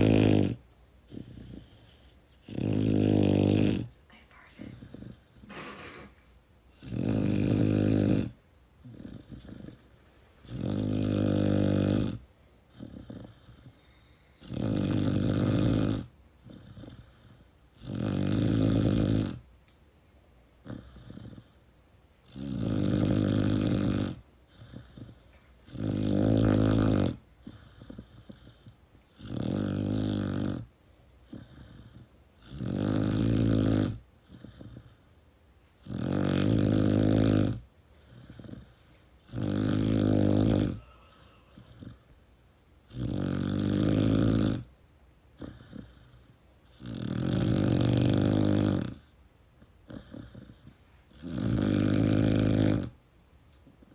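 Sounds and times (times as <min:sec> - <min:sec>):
puppy snoring: 0:00.0 - 0:19.6, 0:20.6 - 0:53.0, 0:53.6 - 0:53.9.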